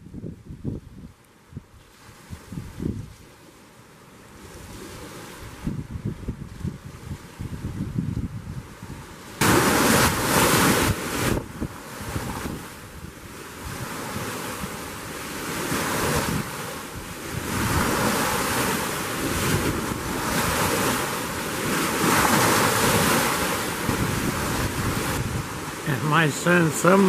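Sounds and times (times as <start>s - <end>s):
gusty wind buffeting microphone: 0.0s - 3.3s, 4.5s - 25.9s
waves splashing on shore: 1.4s - 27.0s.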